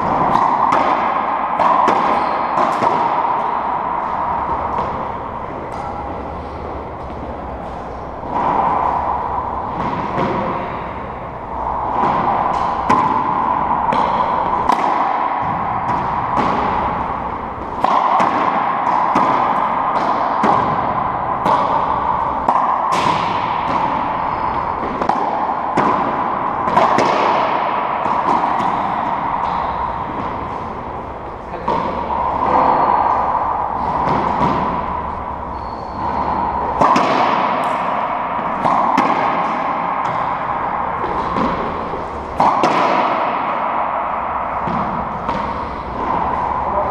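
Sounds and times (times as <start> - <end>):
echoing ball smacks: 0.0 - 46.9
steady hum: 0.0 - 46.9.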